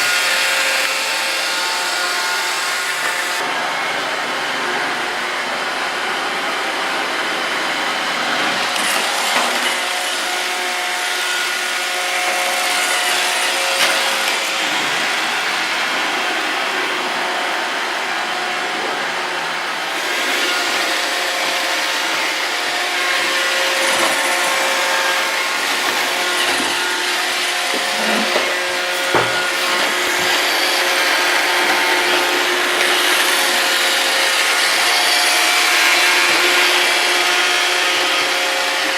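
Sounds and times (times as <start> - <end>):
brushes scrubbing floor: 0.0 - 38.9
robot vacuum whirring: 6.0 - 38.9.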